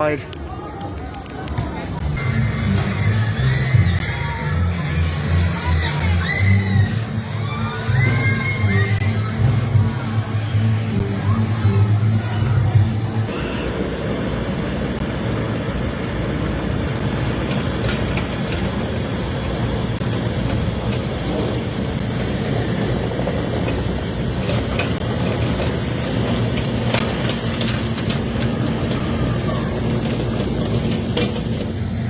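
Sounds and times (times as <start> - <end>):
heavy diesel machinery rumbling: 1.2 - 32.0.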